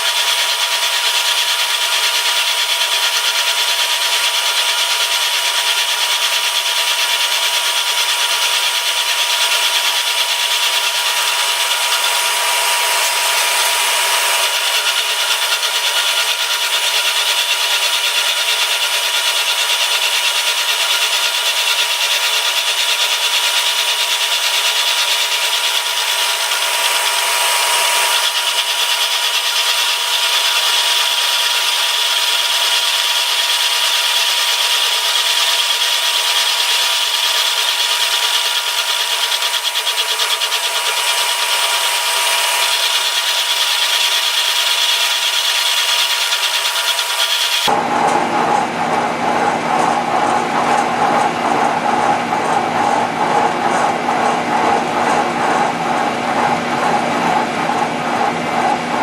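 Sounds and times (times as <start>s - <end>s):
machine running: 0.0s - 59.0s
milling machine cutting: 0.0s - 59.0s.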